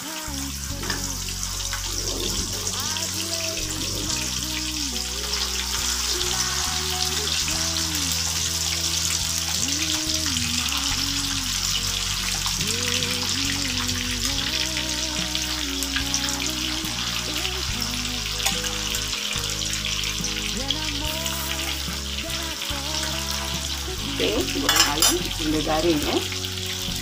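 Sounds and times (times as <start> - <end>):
chicken sizzling in hot oil: 0.0 - 27.0
song with melody and bass: 0.0 - 27.0.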